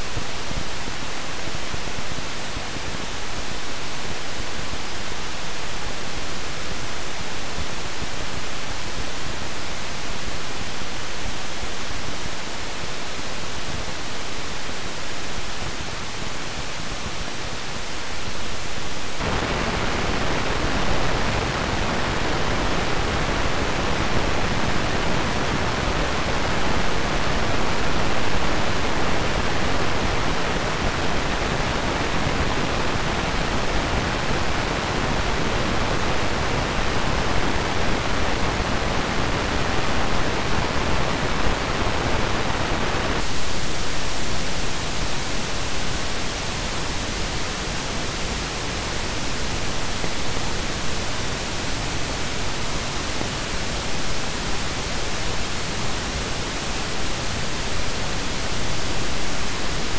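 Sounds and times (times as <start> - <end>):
transistor noise hiss: 0.0 - 59.9.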